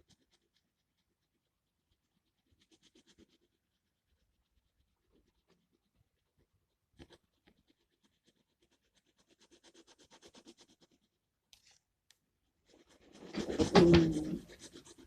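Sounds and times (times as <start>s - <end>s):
pen scratching on paper: 0.0s - 11.8s, 12.6s - 15.0s.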